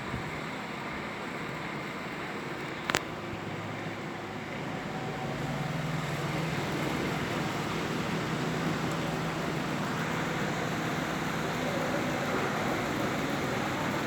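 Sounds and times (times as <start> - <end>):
fan blades rushing air: 0.0 - 14.0
fan motor hum: 0.0 - 14.0.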